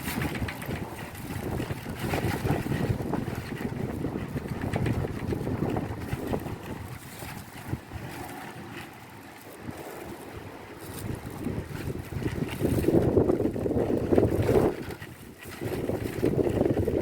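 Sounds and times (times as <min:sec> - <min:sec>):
strong wind gusts: 0:00.0 - 0:17.0.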